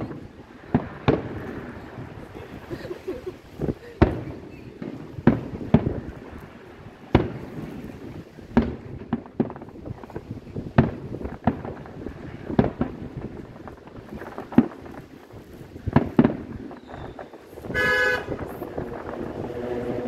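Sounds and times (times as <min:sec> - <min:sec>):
distant firework booms: 0:00.0 - 0:20.0.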